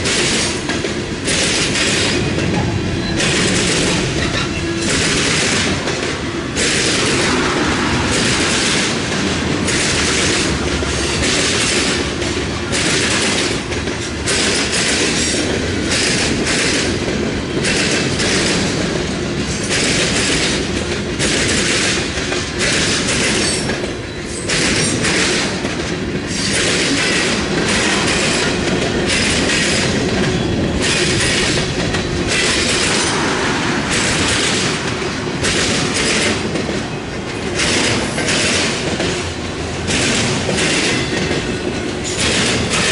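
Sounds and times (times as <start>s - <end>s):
freight train rumbling past: 0.0s - 42.9s
wheels clattering over track: 0.0s - 42.9s.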